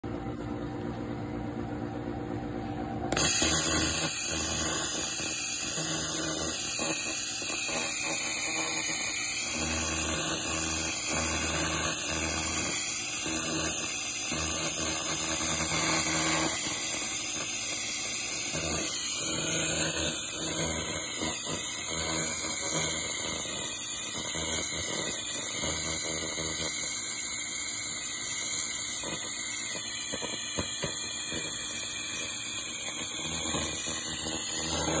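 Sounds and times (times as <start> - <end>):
laser cleaner hissing: 3.1 - 35.0.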